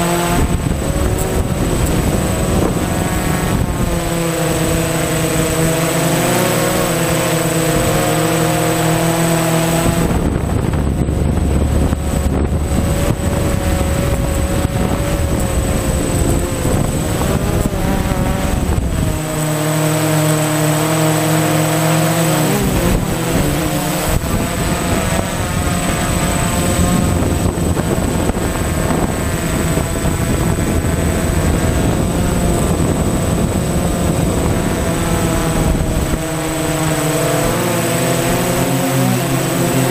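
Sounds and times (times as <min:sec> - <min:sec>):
drone motors whining: 0:00.0 - 0:39.9
wind rumble on microphone: 0:00.0 - 0:39.9.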